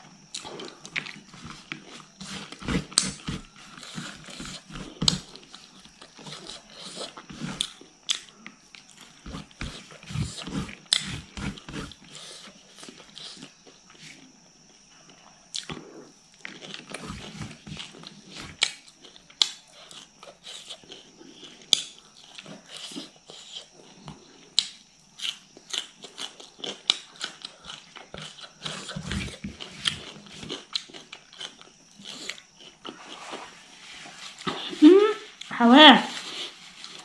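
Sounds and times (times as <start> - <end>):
person chewing food: 0.1 - 35.5.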